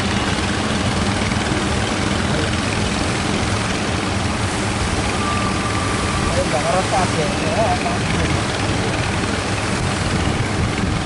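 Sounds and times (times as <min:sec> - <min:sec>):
boat diesel engine humming: 0:00.0 - 0:11.0
surf noise: 0:00.0 - 0:11.0.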